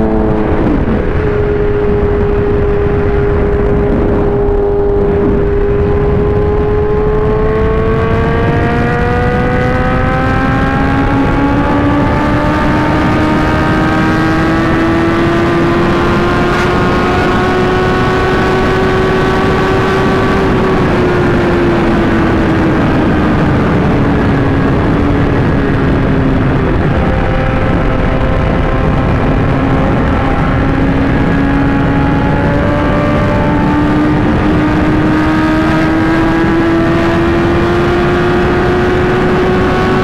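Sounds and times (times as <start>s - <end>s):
motorcycle engine at speed: 0.0s - 40.0s
wind rush: 0.0s - 40.0s.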